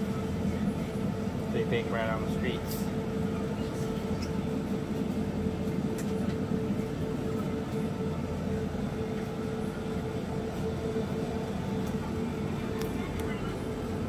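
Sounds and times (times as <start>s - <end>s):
low city rumble: 0.0s - 14.0s
mid-pitched hum: 0.0s - 14.0s.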